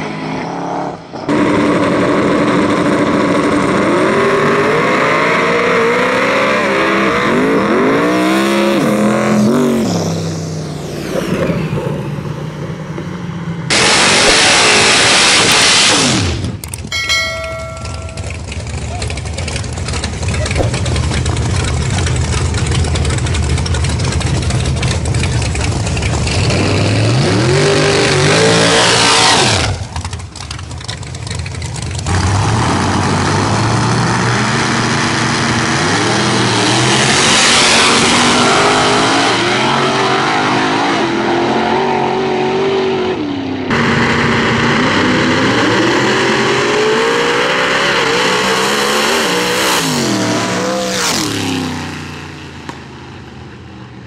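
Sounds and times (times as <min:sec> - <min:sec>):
drag racing cars at full throttle: 0:00.0 - 0:54.0.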